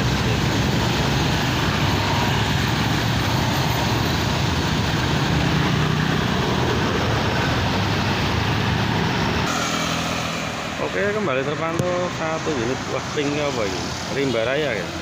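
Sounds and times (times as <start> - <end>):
bus diesel engine under load: 0.0 - 15.0.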